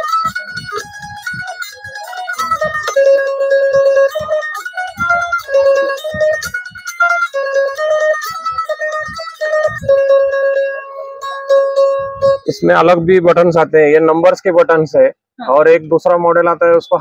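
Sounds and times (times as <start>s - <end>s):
plucked metallic string melody: 0.0s - 14.9s.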